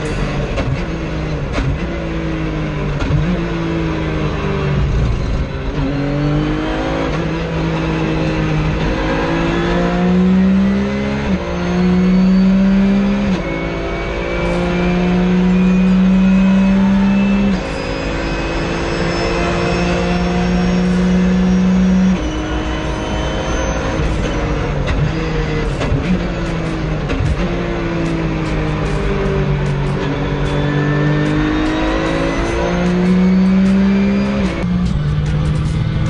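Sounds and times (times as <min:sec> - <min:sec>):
race car engine with gear changes: 0:00.0 - 0:36.0.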